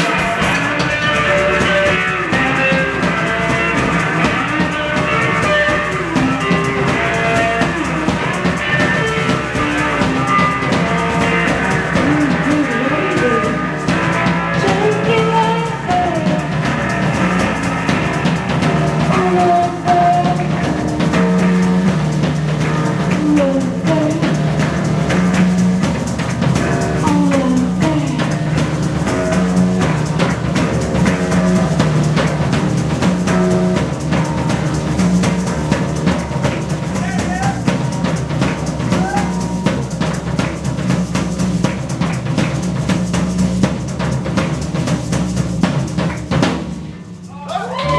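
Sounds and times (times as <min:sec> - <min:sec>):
drum kit beat: 0:00.0 - 0:47.9
live band playing instrumental: 0:00.0 - 0:47.9
sliding pitched notes: 0:00.0 - 0:47.9.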